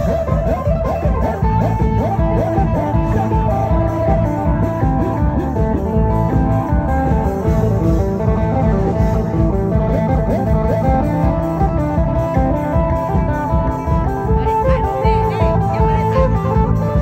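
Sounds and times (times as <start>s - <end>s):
plucked string instrumental music: 0.0s - 17.0s.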